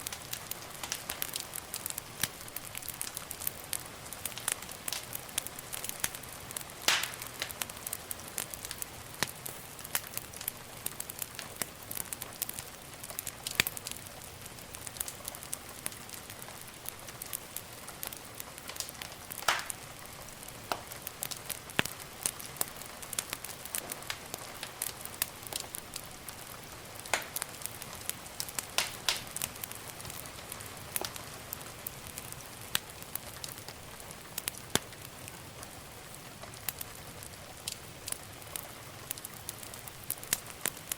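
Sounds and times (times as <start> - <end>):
fire crackling and popping: 0.0 - 40.9
wood fire hissing: 0.0 - 40.9.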